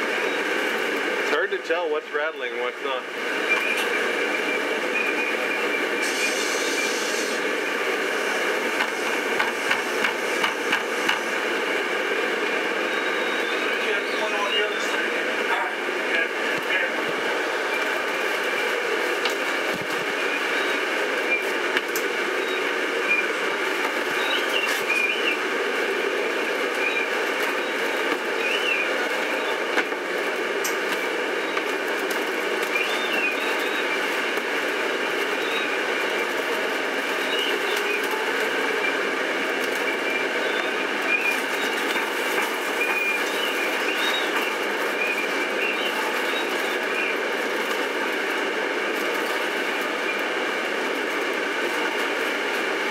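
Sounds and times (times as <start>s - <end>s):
bus engine drone: 0.0s - 52.9s.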